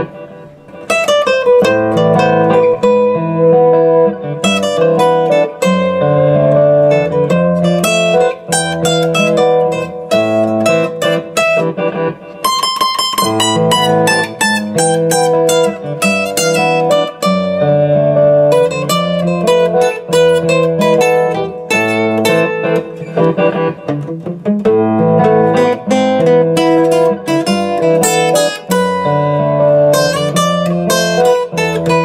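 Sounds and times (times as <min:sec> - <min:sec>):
acoustic guitar jazz chords: 0:00.0 - 0:32.0.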